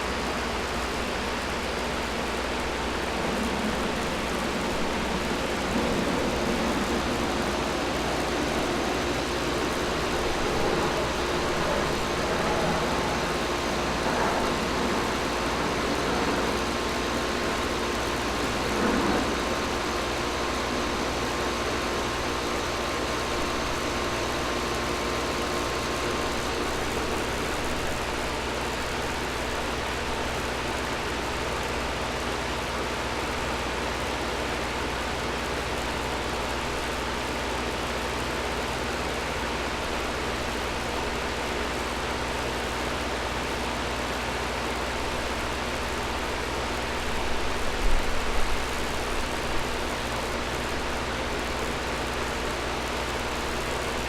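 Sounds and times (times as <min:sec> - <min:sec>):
air conditioner running: 0:00.0 - 0:54.0.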